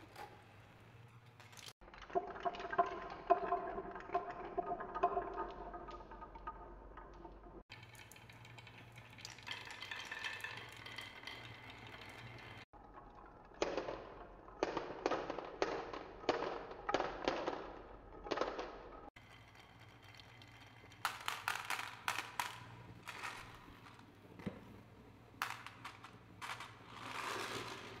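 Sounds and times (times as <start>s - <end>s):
marbles rolling on wooden tracks: 1.3s - 24.6s, 25.3s - 28.0s
marbles clacking into a heap: 1.4s - 24.6s, 25.4s - 28.0s.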